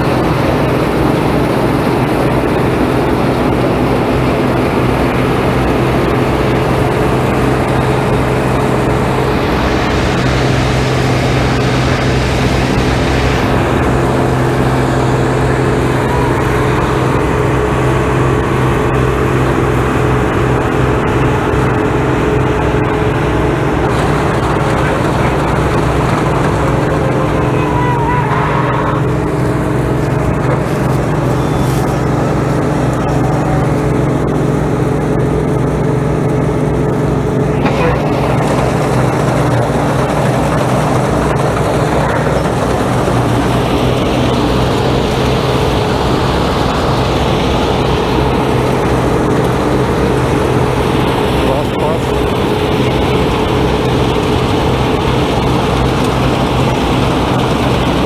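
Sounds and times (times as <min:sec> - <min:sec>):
harvester engine running: 0:00.0 - 0:58.0.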